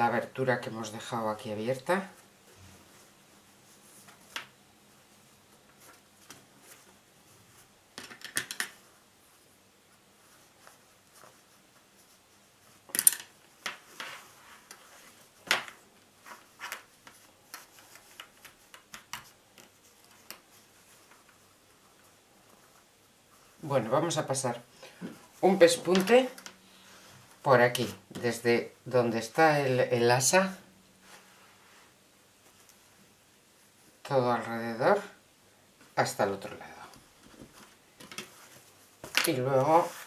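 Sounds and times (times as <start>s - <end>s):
cloth rustling: 1.9s - 7.8s, 8.7s - 28.4s, 29.2s - 35.0s, 37.0s - 40.0s.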